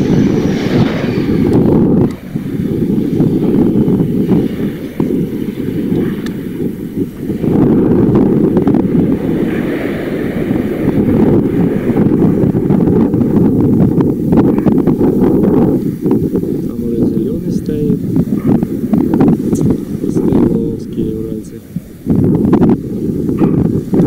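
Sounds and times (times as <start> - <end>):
jet engines rumbling: 0.0 - 24.0
wind buffeting microphone: 0.0 - 24.0.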